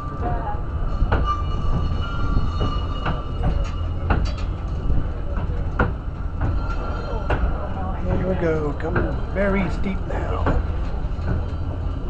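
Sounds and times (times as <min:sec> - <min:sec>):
railway car rumbling: 0:00.0 - 0:12.0.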